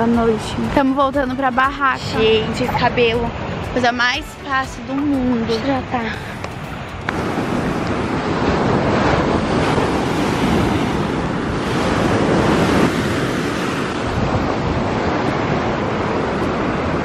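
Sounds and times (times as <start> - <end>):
wind rumbling on microphone: 0.0 - 17.0
surf breaking on beach: 2.0 - 17.0.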